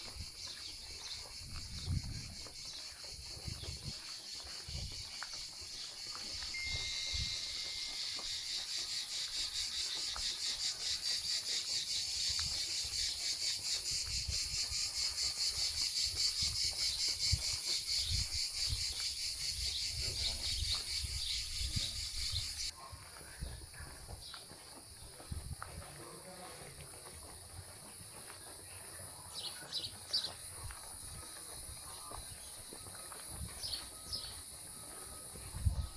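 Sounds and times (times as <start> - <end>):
insects chirping: 0.0 - 22.7, 24.2 - 35.9.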